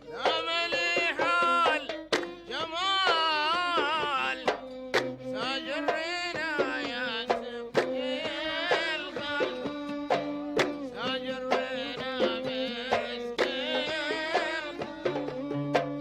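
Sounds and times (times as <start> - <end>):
bowed strings melody: 0.1 - 16.0.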